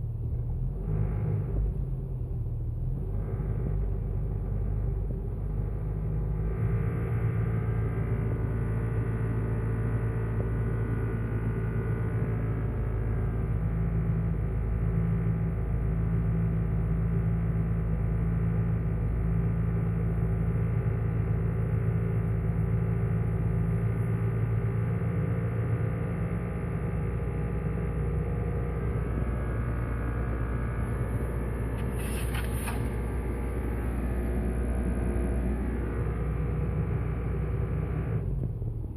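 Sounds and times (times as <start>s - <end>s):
engine buzzing drone: 0.0s - 38.9s.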